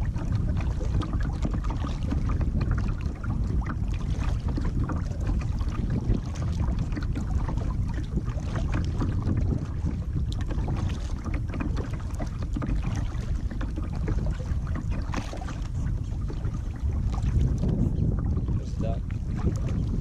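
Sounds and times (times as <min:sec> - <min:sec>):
water splashing against hull: 0:00.0 - 0:20.0
wind rumbling on microphone: 0:00.0 - 0:20.0.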